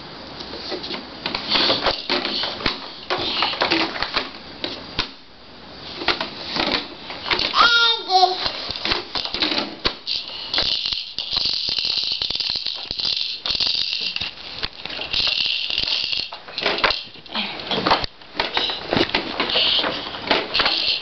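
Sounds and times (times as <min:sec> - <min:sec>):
plastic toys rattling: 0:00.9 - 0:04.3, 0:06.0 - 0:21.0.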